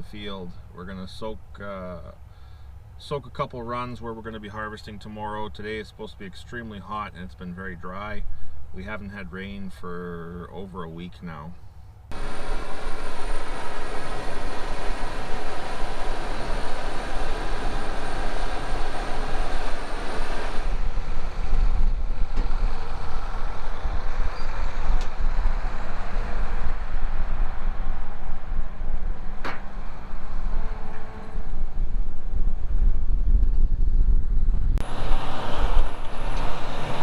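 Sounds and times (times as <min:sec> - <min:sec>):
tractor engine rumble: 0:02.2 - 0:37.0.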